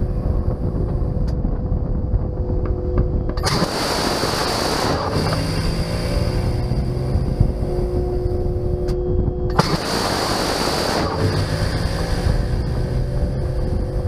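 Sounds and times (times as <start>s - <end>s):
steady whine: 0.0s - 14.0s.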